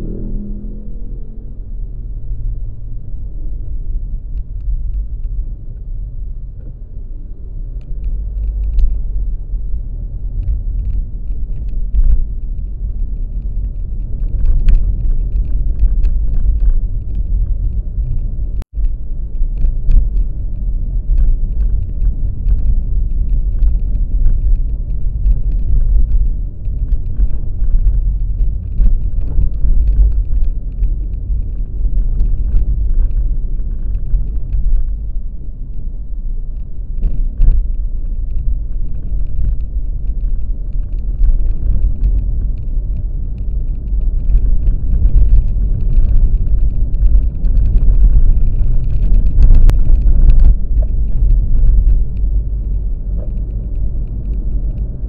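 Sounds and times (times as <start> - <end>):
road vehicle rumble: 0.0 - 55.0
faint ticks and clatter: 4.3 - 5.9, 7.7 - 55.0.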